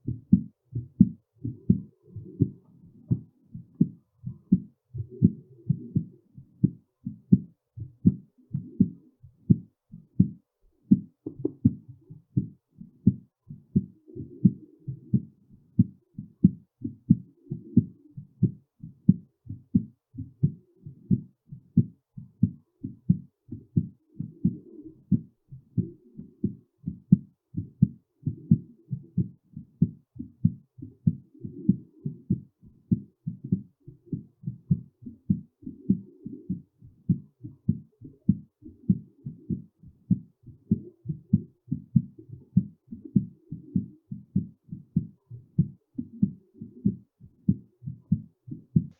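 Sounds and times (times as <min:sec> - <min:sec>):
heartbeat: 0:00.0 - 0:48.9.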